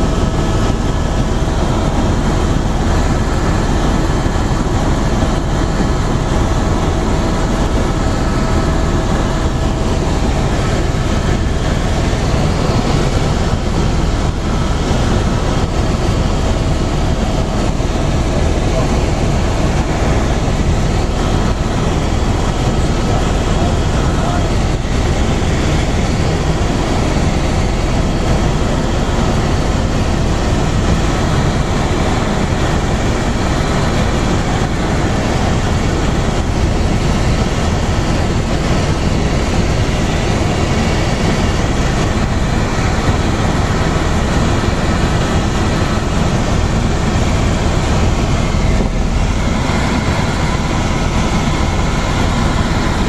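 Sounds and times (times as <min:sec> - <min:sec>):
helicopter engine and rotor noise: 0:00.0 - 0:53.0.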